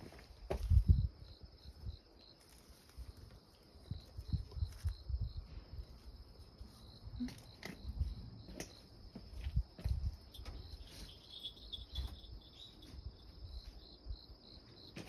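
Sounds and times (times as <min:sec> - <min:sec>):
insect chirping: 0:00.1 - 0:15.0.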